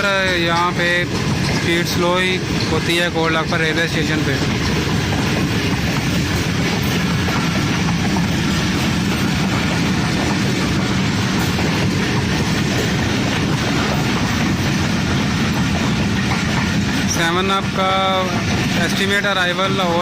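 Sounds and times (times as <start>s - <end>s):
train wheels rattling on track: 0.0s - 20.0s.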